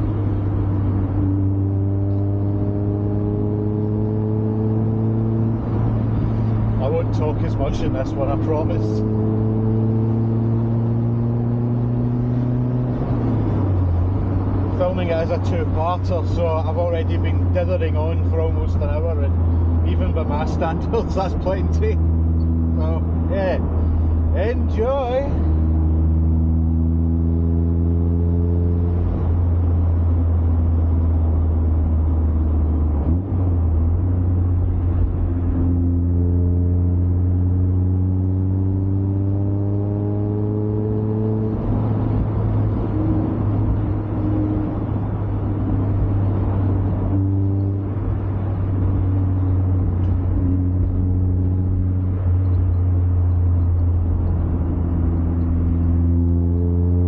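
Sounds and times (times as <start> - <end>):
car engine accelerating: 0.0 - 57.0
tyres rumbling on road: 0.0 - 57.0.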